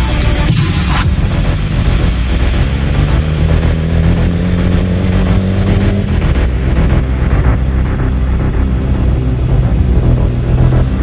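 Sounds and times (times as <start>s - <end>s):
motorcycle engine at low revs: 0.4s - 11.0s.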